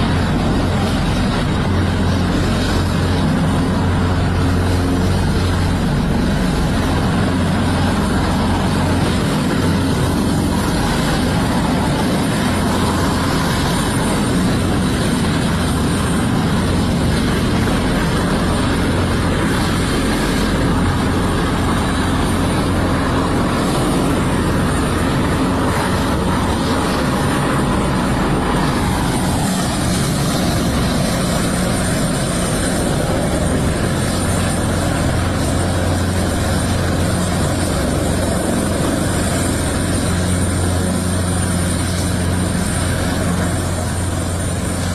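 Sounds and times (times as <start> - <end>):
helicopter rotor and turbine noise: 0.0 - 44.9.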